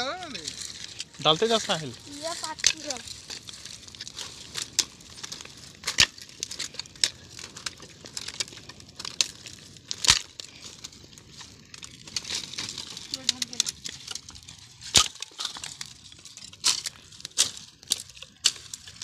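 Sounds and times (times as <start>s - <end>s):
twig fire crackling: 0.0s - 19.0s
sticks snapping on fire: 0.4s - 19.0s.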